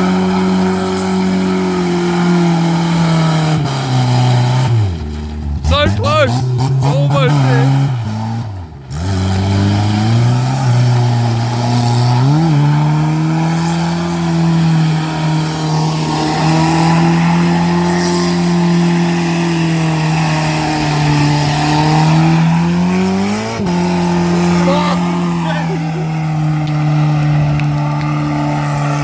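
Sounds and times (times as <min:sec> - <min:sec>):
car engine revving hard: 0:00.0 - 0:29.0.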